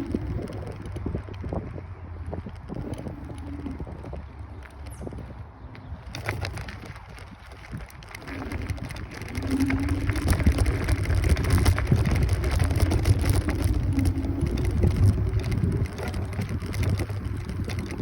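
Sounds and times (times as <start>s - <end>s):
road rumble: 0.0s - 18.0s
small ticks from road surface: 0.0s - 18.0s
wind buffeting microphone: 0.0s - 18.0s.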